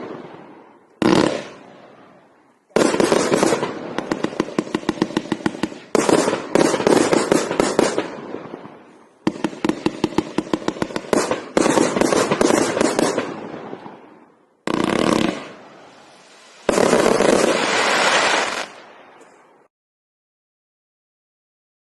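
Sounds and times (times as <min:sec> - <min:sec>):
fireworks cake firing: 0:00.0 - 0:19.4.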